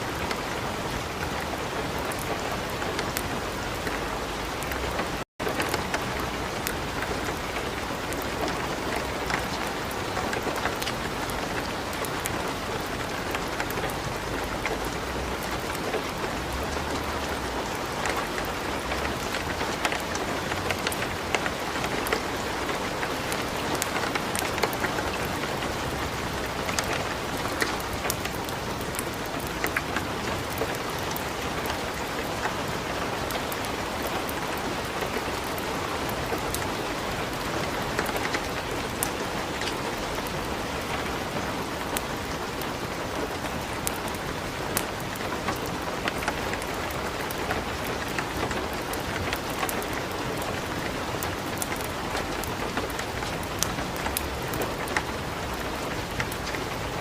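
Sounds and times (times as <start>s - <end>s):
light rain falling: 0.0s - 57.0s
wood fire crackling: 2.0s - 32.5s, 37.6s - 57.0s.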